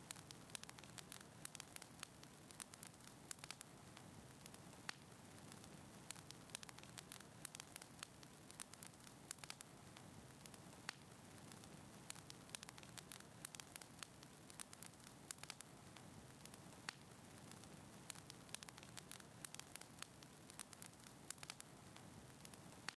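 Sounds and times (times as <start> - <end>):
fire crackling and popping: 0.0 - 23.0
soft steady hiss: 0.0 - 23.0.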